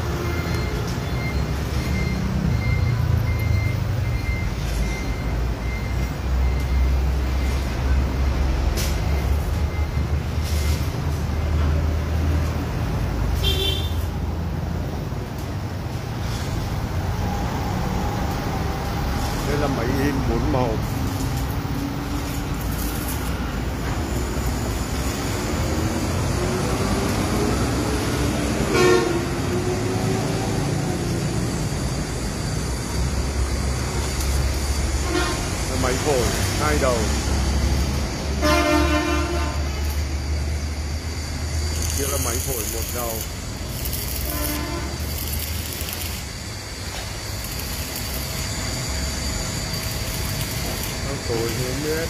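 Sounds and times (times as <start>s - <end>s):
factory machinery running: 0.0s - 52.0s.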